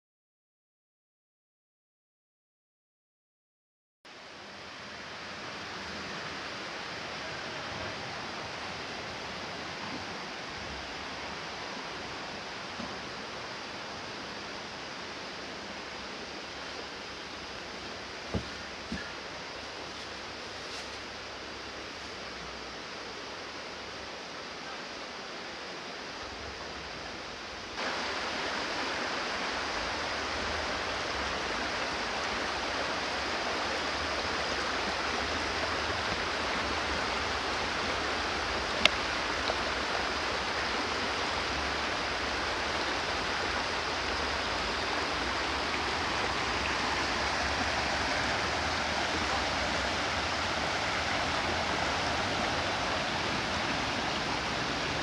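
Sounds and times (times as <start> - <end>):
rocky creek rushing: 4.1 - 55.0.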